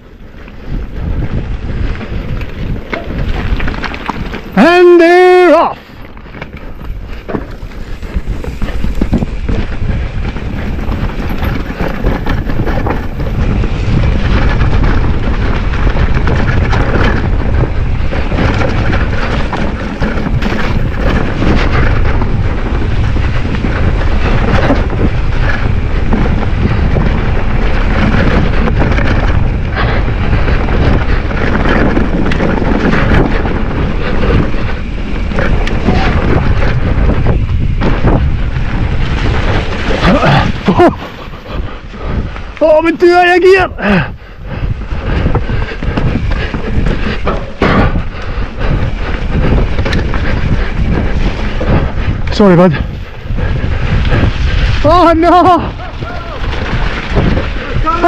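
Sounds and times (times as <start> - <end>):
tyre rumble: 0.0 - 43.1, 43.8 - 58.0
bike rattling over bumps: 0.0 - 58.0
wind buffeting microphone: 0.0 - 58.0.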